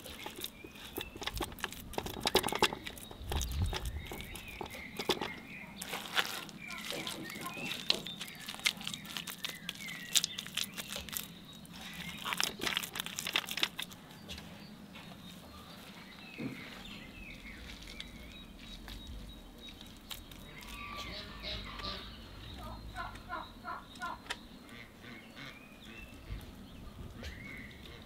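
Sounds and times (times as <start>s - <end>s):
straw and clay crunching: 0.0s - 23.3s
small birds chirping: 0.0s - 28.0s.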